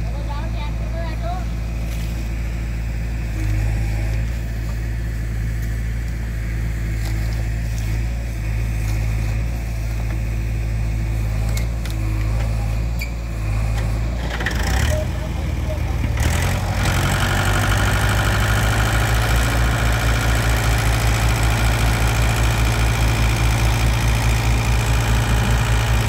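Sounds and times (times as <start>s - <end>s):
diesel engines running under load: 0.0s - 26.0s.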